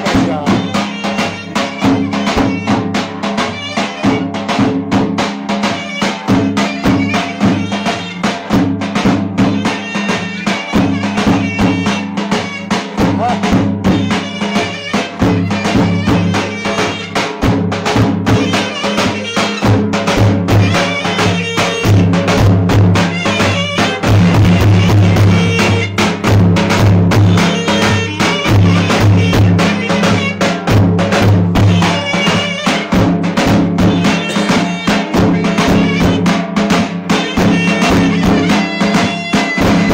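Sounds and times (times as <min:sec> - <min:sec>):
fast drumbeats: 0:00.0 - 0:39.9
reedy wind instrument melody: 0:00.0 - 0:39.9.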